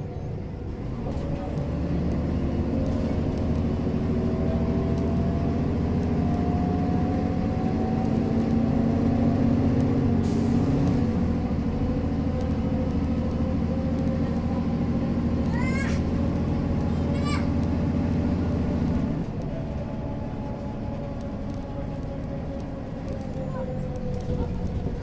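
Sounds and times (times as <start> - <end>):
bus diesel engine accelerating: 0.0 - 25.0.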